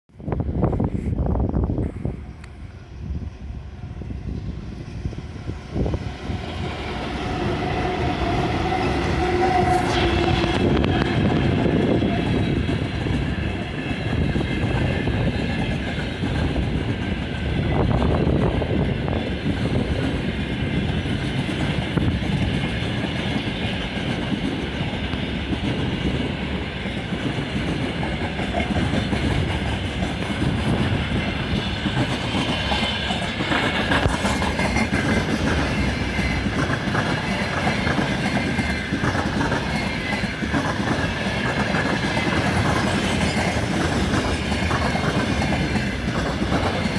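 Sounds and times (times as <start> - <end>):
freight train rolling past: 0.1 - 46.9.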